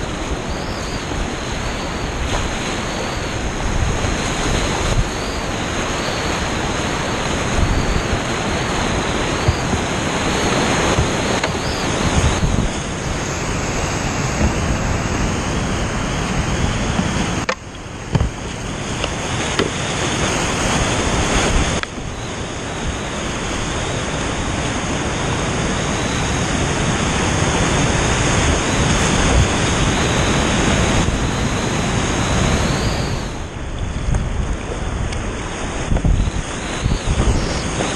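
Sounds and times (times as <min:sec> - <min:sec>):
rush of whitewater rapids: 0:00.0 - 0:37.9.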